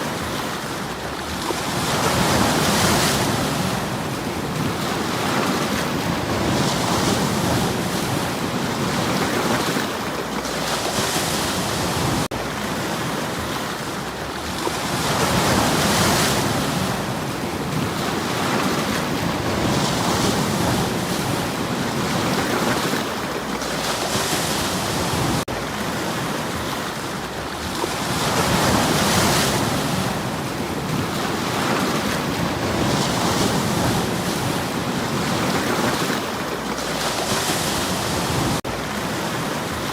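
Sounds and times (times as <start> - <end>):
waves washing over stones: 0.0 - 39.9.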